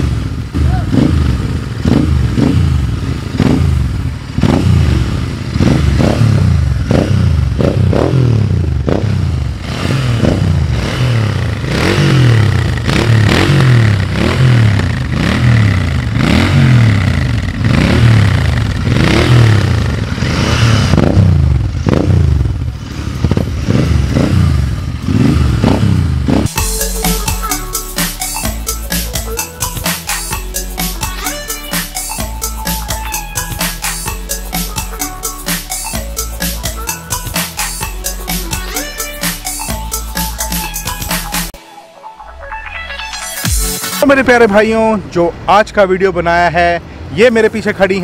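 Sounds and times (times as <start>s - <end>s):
motorcycle engine revving: 0.0s - 41.6s.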